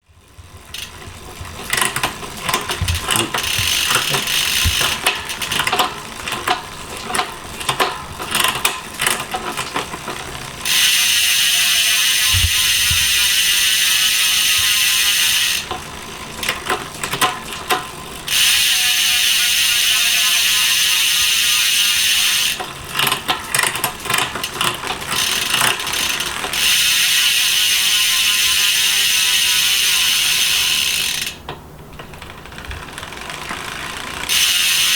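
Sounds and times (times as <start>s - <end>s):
freehub ratchet buzz: 0.1s - 31.4s, 32.1s - 34.9s
bicycle gear change clicks: 0.7s - 34.9s.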